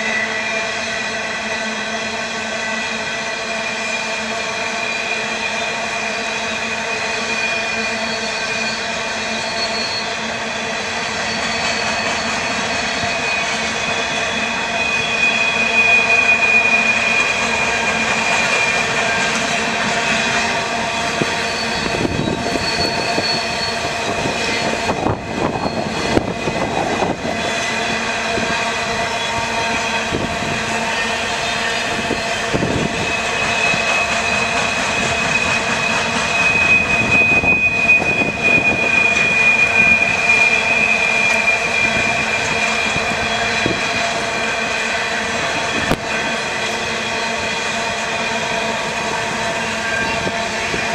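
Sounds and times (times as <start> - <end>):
freight train wheels rumbling: 0.0 - 50.9
high wheel squeal: 0.0 - 50.9
train clanks: 0.0 - 50.9.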